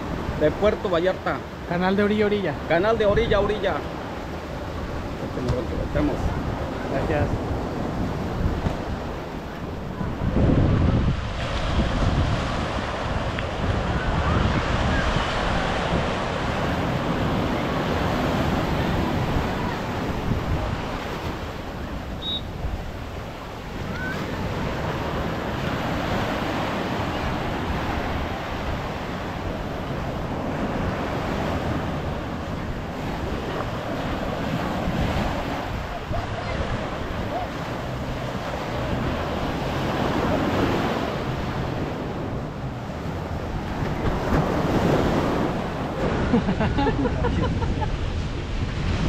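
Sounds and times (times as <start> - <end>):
ocean surf breaking: 0.0 - 49.0
wind buffeting microphone: 4.6 - 49.0.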